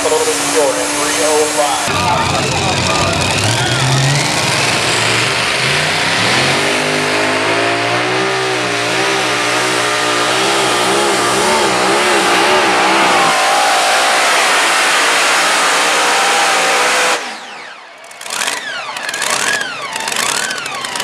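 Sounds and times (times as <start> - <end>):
tractor engines revving: 0.0 - 21.0.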